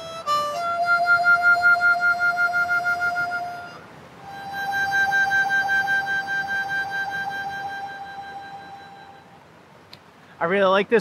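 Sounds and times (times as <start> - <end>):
harmonica blues riff: 0.0 - 9.4.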